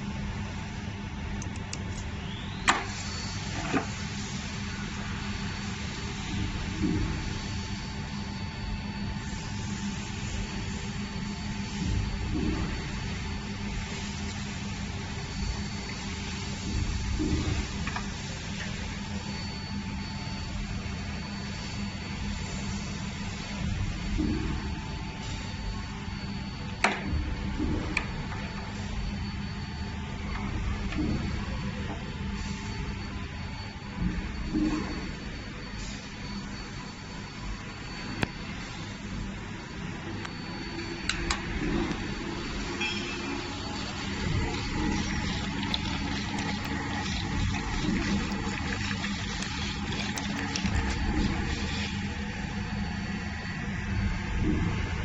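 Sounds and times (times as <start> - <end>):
cooling system machine hum: 0.0 - 55.0
faint steady whines: 0.0 - 55.0.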